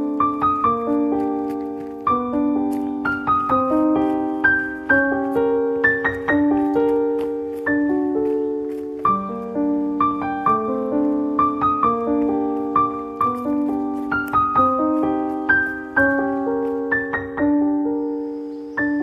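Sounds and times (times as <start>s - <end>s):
solo piano arpeggiated chords: 0.0s - 19.0s.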